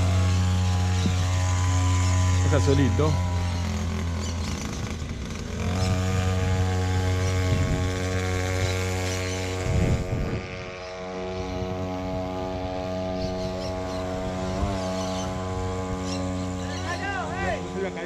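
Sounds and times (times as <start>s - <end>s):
small outboard motor running: 0.0s - 18.0s.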